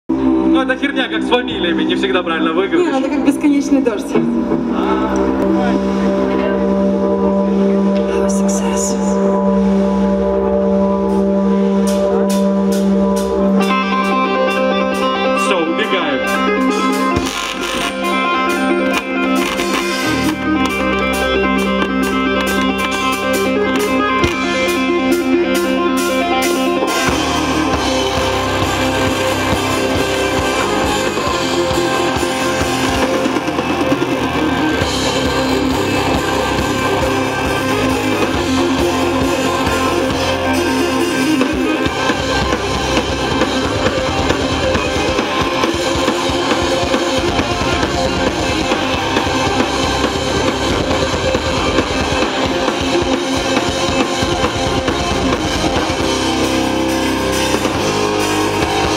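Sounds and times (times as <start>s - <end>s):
electric guitar: 0.1s - 58.9s
rock band playing: 0.1s - 58.9s
drum kit: 2.7s - 58.9s.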